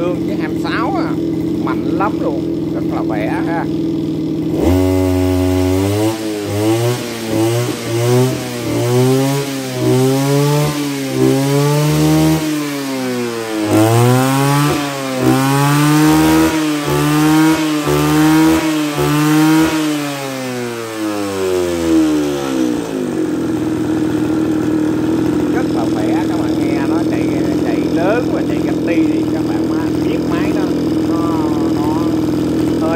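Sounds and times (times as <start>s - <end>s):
brush cutter engine revving: 0.0s - 32.9s.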